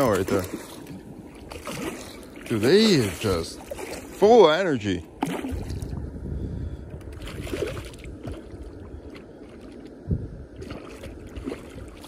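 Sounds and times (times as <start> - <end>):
fish thrashing in water: 0.0 - 4.2, 5.1 - 6.2, 7.0 - 12.0
water splashing: 0.0 - 6.2, 7.0 - 12.0.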